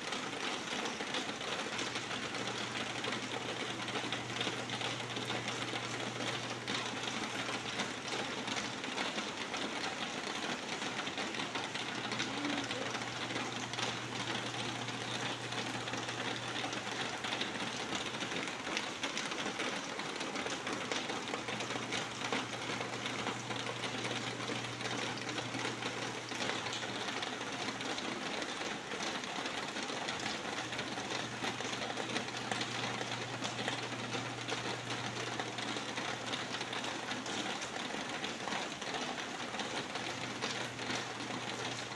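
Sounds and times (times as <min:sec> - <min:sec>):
rain falling: 0:00.1 - 0:41.9.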